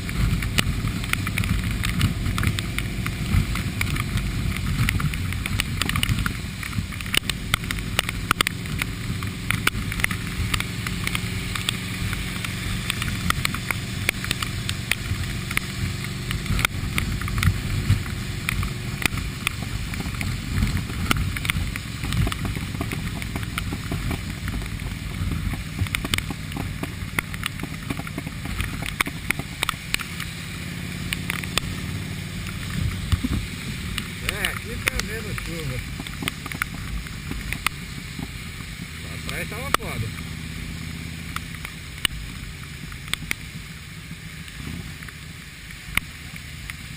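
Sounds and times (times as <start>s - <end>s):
motorcycle engine running: 0.0s - 46.9s
rain ticking on microphone: 0.0s - 46.9s
wind rush on microphone: 0.0s - 46.9s.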